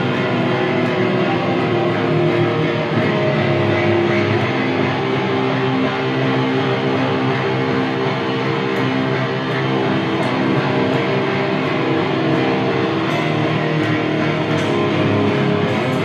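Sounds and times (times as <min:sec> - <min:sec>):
electric guitar sustained chords: 0:00.0 - 0:16.0.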